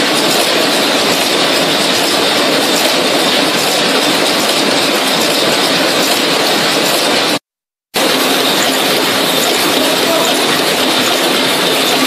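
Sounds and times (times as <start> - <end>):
insertion machine running: 0.0 - 7.4, 8.0 - 12.0.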